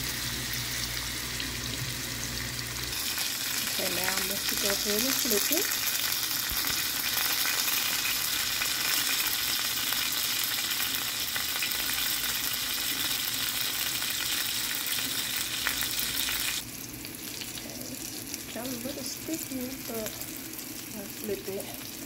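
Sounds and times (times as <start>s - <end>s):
oil sizzling in a skillet: 0.0s - 22.0s.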